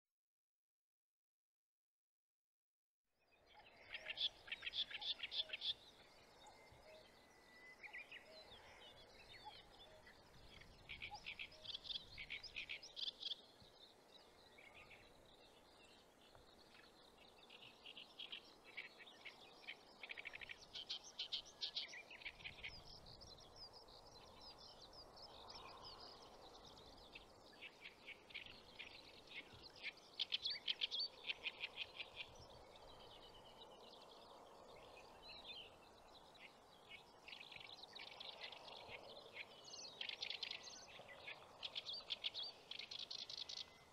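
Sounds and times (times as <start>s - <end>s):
faint outdoor hiss: 3.2s - 43.9s
songbirds chattering trills: 3.5s - 43.9s.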